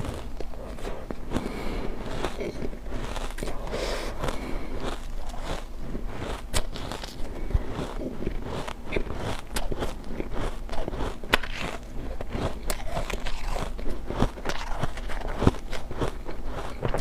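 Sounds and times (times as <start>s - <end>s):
ice being crunched and chewed: 0.0s - 17.0s.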